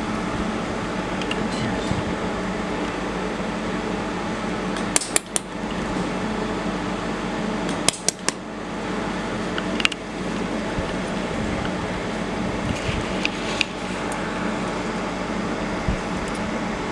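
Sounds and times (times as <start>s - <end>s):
welding machine hum: 0.0s - 16.9s.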